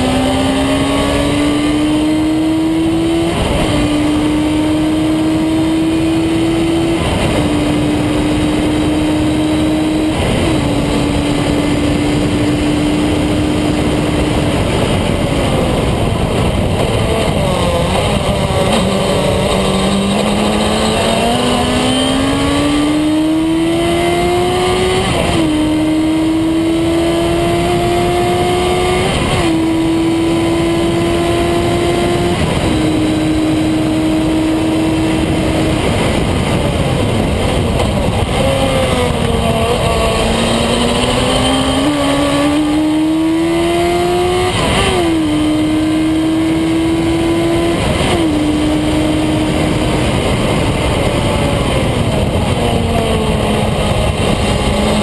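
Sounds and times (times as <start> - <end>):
car engine accelerating and shifting: 0.0 - 55.0
wind and road noise: 0.0 - 55.0.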